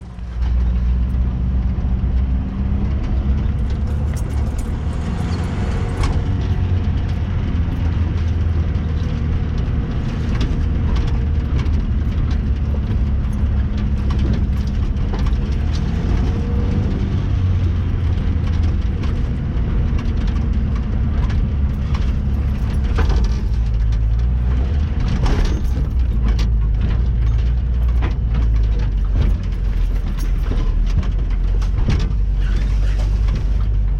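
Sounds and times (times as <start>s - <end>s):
knocks and rattles: 0.0s - 33.9s
off-road vehicle engine running: 0.0s - 33.9s.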